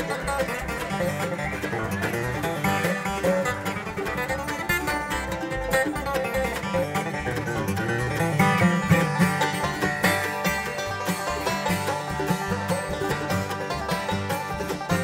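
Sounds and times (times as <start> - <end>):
banjo picking rolls: 0.0 - 15.0
bluegrass band playing: 0.0 - 15.0.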